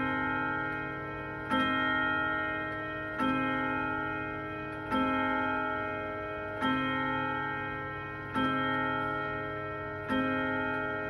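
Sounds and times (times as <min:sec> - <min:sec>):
clock ticking: 0:00.0 - 0:11.0
grandfather clock striking: 0:00.0 - 0:11.0.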